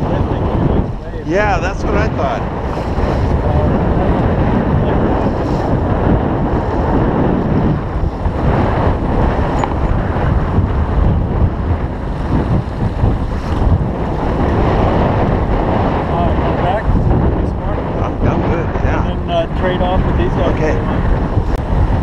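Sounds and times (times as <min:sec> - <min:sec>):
water splashing along hull: 0:00.0 - 0:18.4
wind buffeting microphone: 0:00.0 - 0:22.0.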